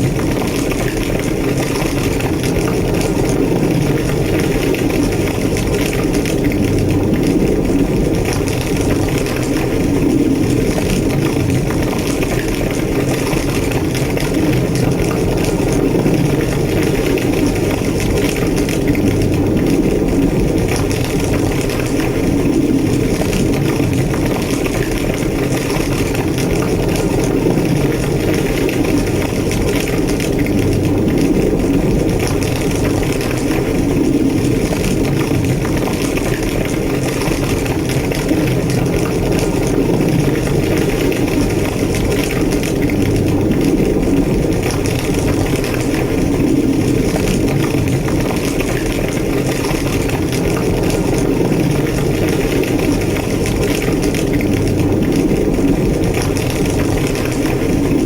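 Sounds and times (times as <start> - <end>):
fire roaring and crackling: 0.0 - 58.0.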